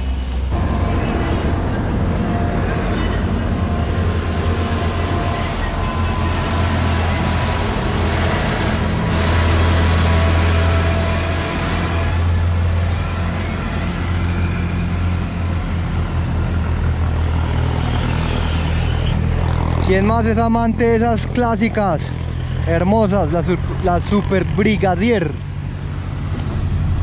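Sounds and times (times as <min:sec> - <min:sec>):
trucks and cars passing: 0:00.0 - 0:27.0.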